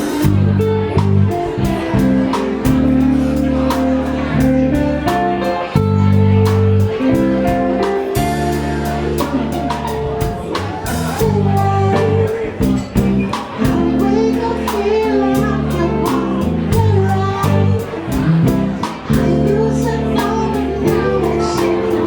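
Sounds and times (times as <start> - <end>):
band playing a song: 0.0 - 22.0
person singing: 0.0 - 22.0.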